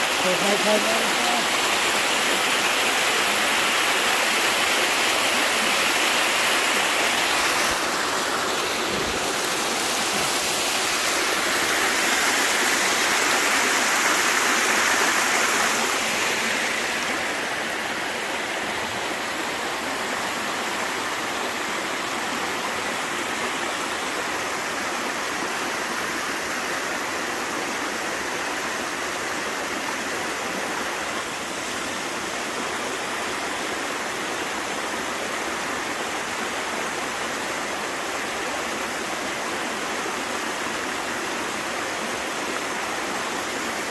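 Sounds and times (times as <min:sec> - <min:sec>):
water rushing over rock ledges: 0:00.0 - 0:43.9.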